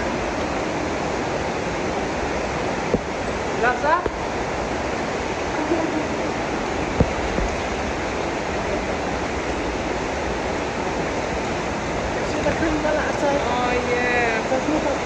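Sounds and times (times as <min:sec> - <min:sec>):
rush of flowing water: 0:00.0 - 0:15.0.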